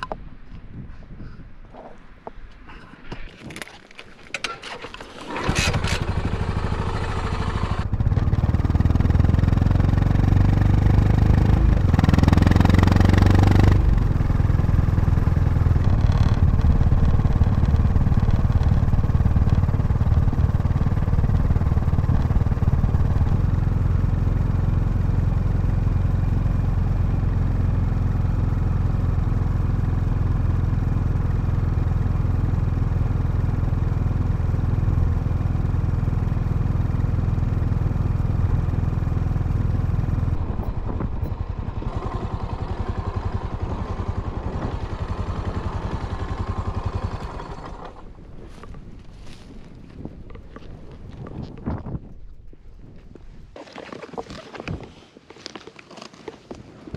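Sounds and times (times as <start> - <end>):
motorcycle engine starting and revving: 4.3 - 52.2.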